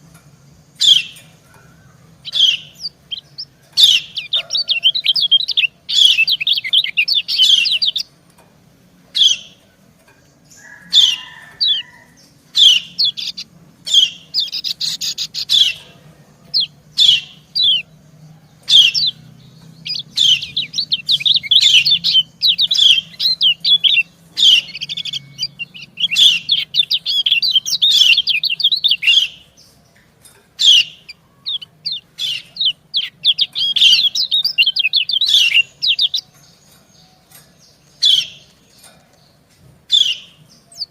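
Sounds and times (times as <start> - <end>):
bird chirps: 0.0 - 8.4, 9.1 - 40.9
bird twittering song: 0.0 - 40.9.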